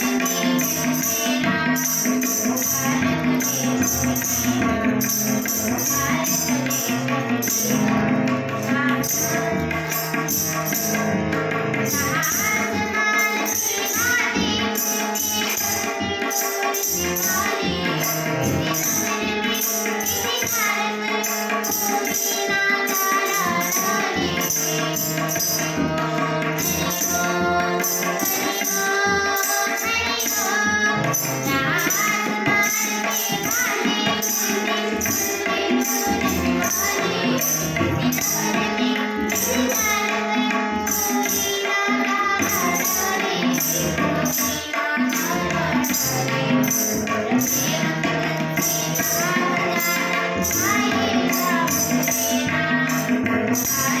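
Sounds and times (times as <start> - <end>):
devotional song singing: 0.0 - 10.8, 11.7 - 54.0
jingling percussion beat: 0.0 - 54.0.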